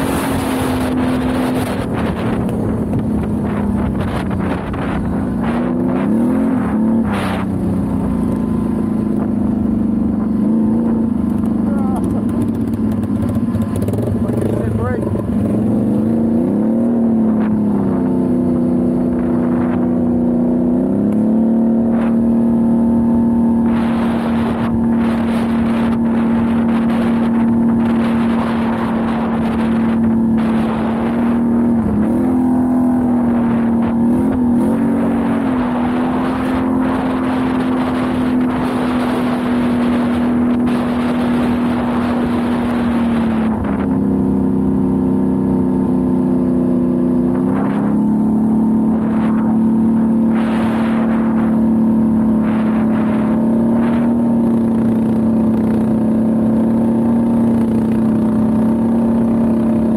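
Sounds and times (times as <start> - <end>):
engine running steadily: 0.0 - 59.9
wind: 0.0 - 59.9.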